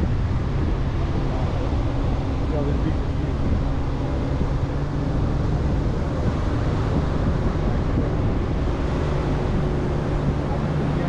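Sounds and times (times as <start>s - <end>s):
pickup engine drone: 0.0s - 11.0s
wind rumbling on microphone: 0.0s - 11.0s.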